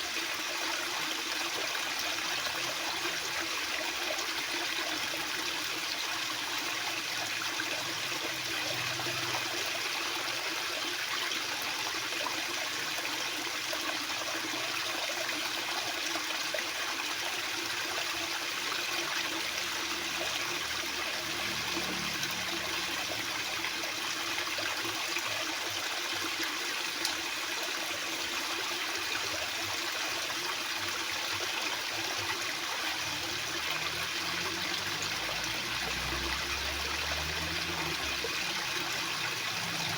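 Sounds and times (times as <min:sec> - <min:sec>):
fast-flowing water: 0:00.0 - 0:39.9.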